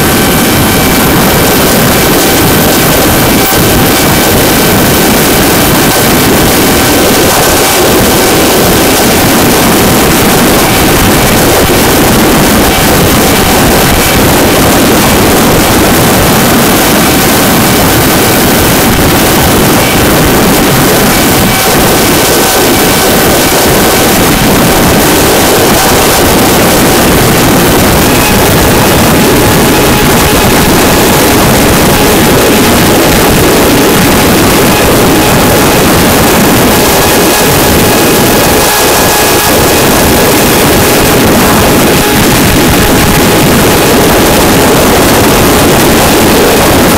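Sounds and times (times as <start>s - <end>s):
electric motor and propeller whine: 0.0s - 46.9s
wind rush over camera: 0.0s - 46.9s.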